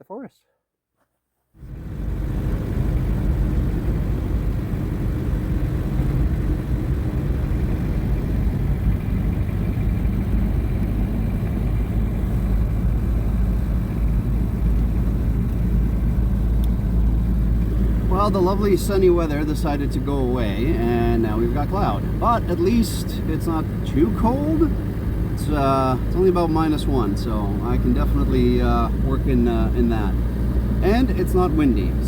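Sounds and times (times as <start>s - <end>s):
car engine and road rumble: 1.6s - 32.0s.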